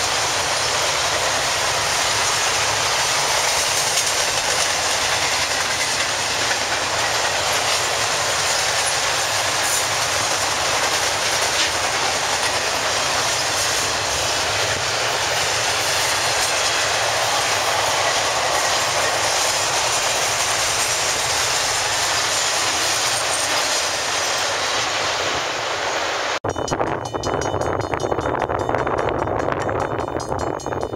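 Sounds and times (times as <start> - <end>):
train wheels on rails: 0.0 - 30.9.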